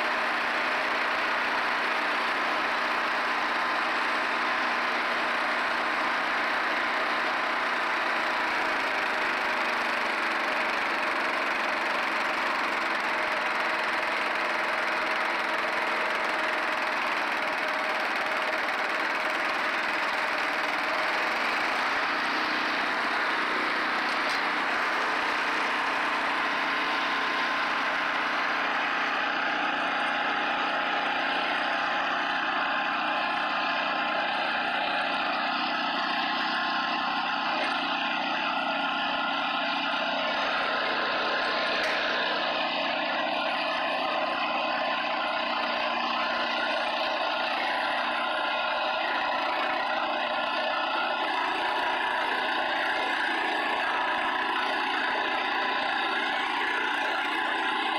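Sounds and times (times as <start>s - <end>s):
tractor snowblower running: 0.0s - 57.9s.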